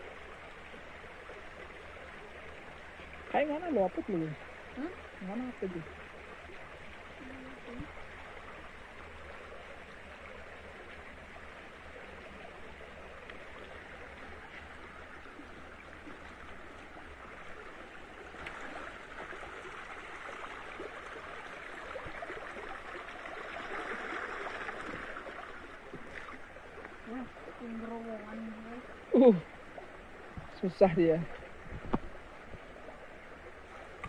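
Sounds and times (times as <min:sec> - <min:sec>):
stream gurgling over rocks: 0:00.0 - 0:34.0.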